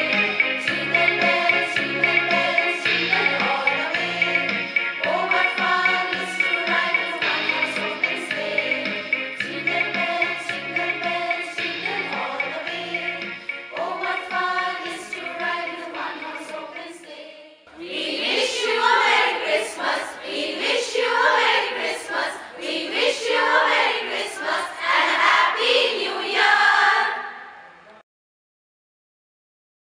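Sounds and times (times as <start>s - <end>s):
choir singing: 0.0s - 28.0s.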